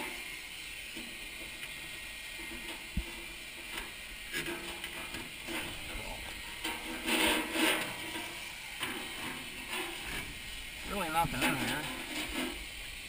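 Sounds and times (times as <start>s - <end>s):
vacuum hose scraping sheet metal: 0.9s - 13.0s.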